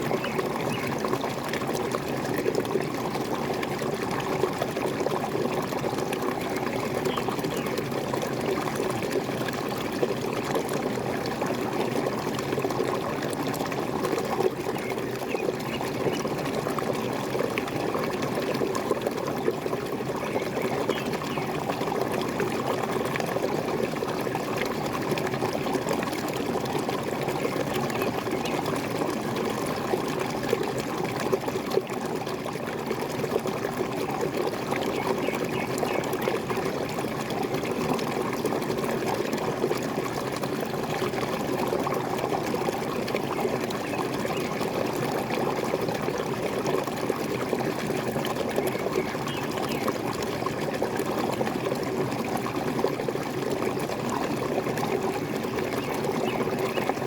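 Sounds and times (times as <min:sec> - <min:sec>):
waterfall splashing and gurgling: 0:00.0 - 0:57.0.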